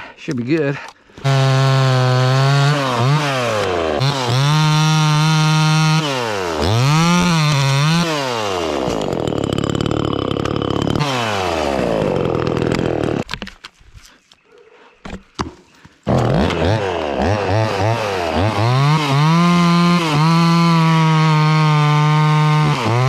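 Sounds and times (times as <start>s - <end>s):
chainsaw cutting wood: 1.2s - 13.5s, 15.4s - 23.0s.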